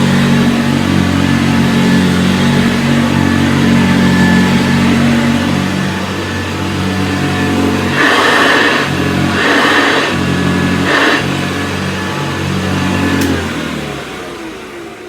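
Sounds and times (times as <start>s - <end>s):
motor winding down: 0.0s - 15.0s
upright vacuum cleaner running: 0.0s - 15.0s.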